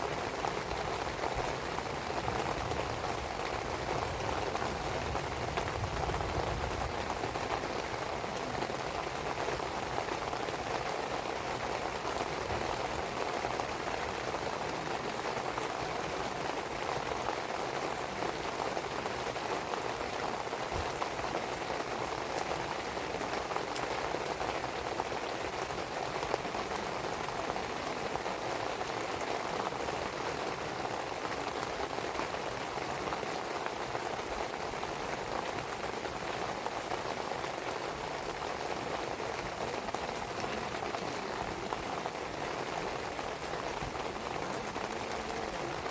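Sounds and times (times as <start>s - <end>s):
rain pattering on surfaces: 0.0s - 45.9s.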